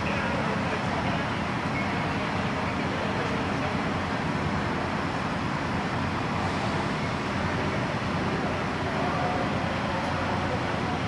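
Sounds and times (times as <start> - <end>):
engines rumbling: 0.0 - 11.0.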